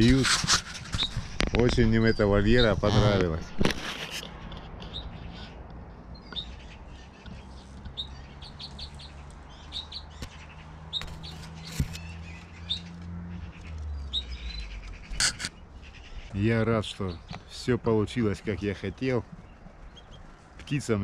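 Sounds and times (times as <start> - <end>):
songbirds chirping and singing: 0.0 - 21.0.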